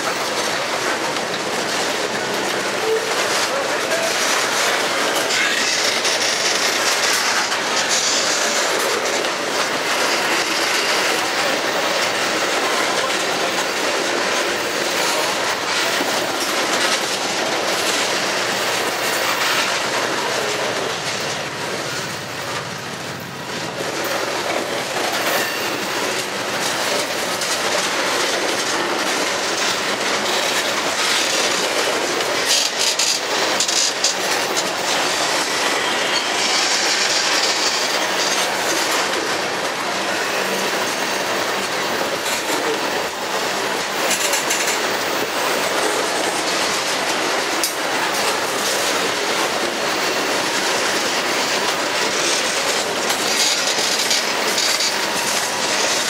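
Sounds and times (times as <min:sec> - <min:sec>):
train wheels rumbling: 0:00.0 - 0:56.0
wheels clacking on rail joints: 0:00.0 - 0:56.0.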